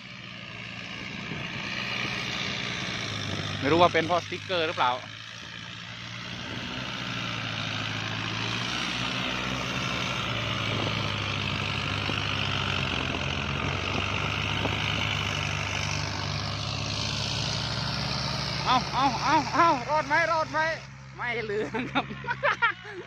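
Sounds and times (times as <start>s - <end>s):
high engine whine: 0.0s - 23.0s
tractor engine under load: 0.0s - 23.0s.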